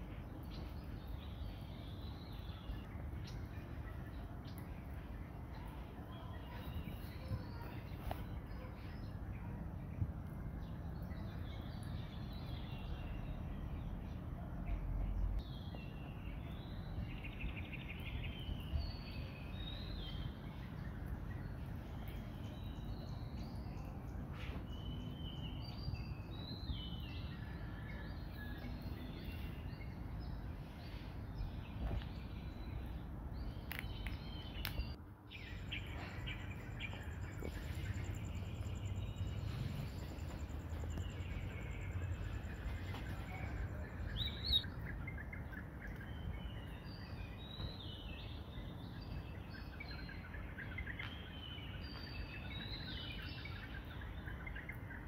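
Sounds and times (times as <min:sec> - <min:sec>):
low ambient rumble: 0:00.0 - 0:54.6
bird chirps: 0:10.6 - 0:55.0.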